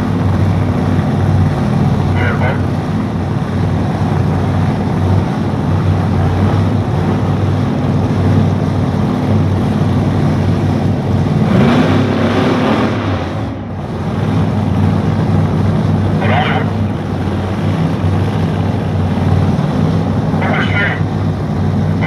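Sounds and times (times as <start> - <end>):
engines idling at low revs: 0.0 - 22.0.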